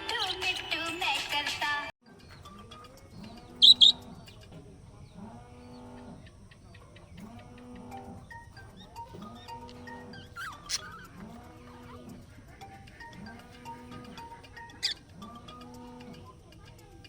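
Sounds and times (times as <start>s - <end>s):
bird chirping: 2.2s - 16.5s.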